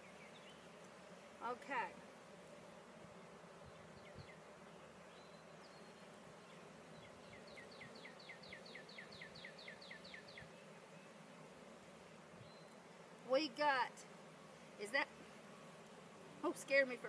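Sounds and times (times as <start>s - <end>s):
honey bees humming: 0.0s - 17.0s.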